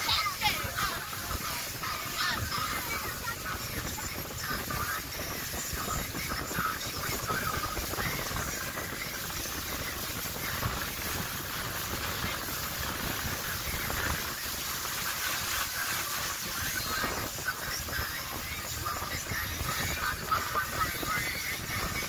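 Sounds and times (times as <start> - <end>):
boat motor running: 0.0 - 22.0
water spraying: 0.0 - 22.0
wind buffeting microphone: 0.0 - 22.0.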